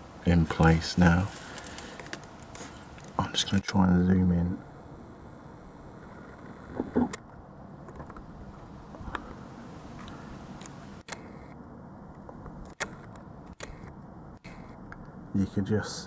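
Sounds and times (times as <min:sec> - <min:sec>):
steady low hum: 0:00.0 - 0:16.0
faint clicks: 0:00.4 - 0:03.7, 0:04.6 - 0:15.2.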